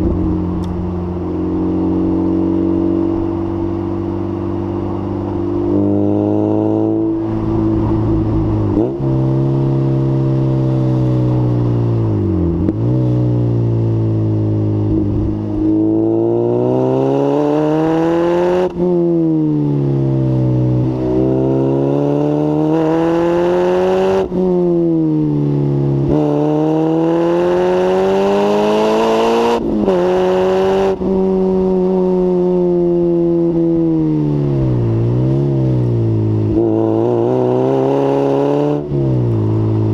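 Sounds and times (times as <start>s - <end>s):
loud car engine revving: 5.4s - 39.9s.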